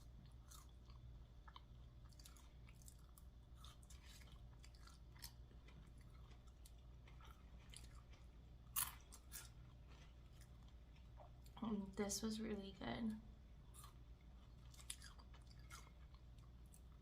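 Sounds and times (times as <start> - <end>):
person chewing food: 0.0 - 11.7, 13.4 - 17.0.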